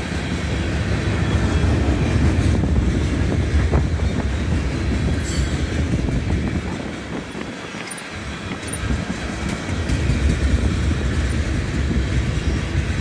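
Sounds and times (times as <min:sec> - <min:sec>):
train cars clicking and knocking: 0:00.0 - 0:13.0
train wheels rumbling on rail: 0:00.0 - 0:13.0.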